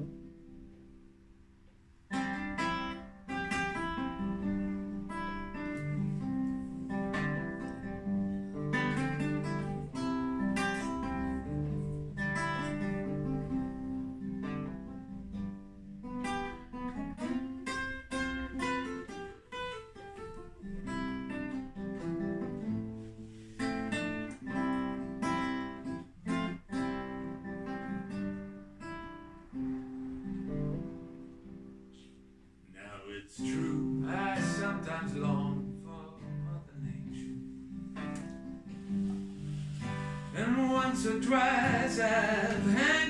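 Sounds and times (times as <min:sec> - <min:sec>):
acoustic guitar: 0:00.0 - 0:43.0.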